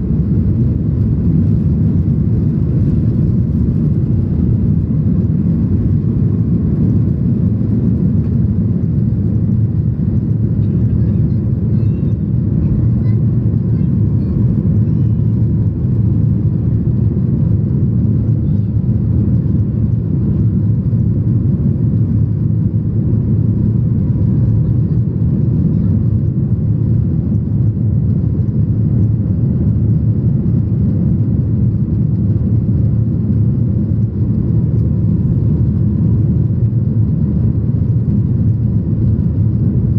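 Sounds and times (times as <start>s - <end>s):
jet engines low rumble in cabin: 0.0s - 39.9s.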